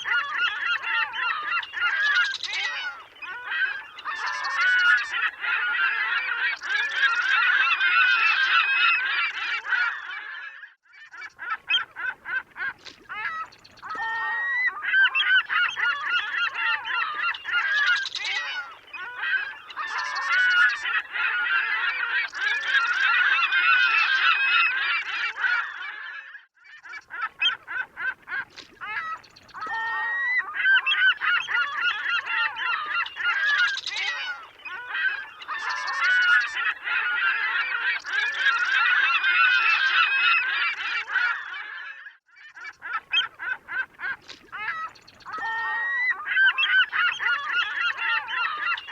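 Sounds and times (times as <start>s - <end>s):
seagulls calling: 0.0s - 48.9s.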